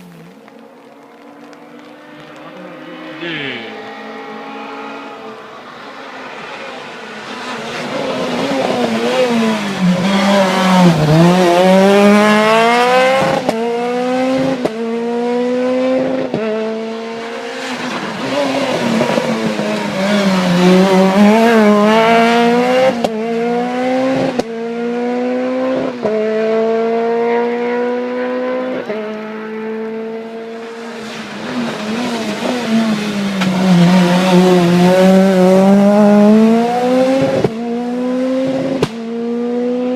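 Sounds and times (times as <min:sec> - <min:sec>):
rally car engine passing: 0:00.0 - 0:39.9.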